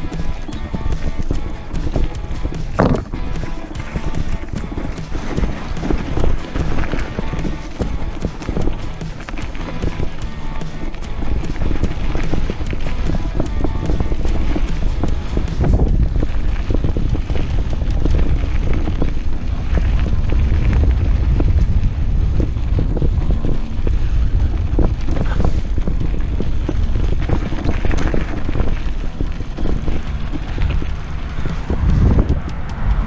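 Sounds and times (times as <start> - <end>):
bike rattling on rough track: 0.0 - 33.0
wind rushing over microphone: 0.0 - 33.0.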